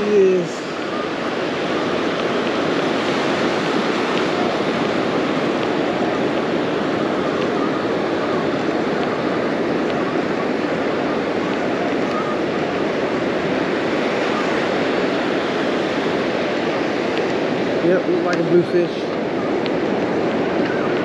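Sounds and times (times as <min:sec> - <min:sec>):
ocean surf washing on beach: 0:00.0 - 0:21.0.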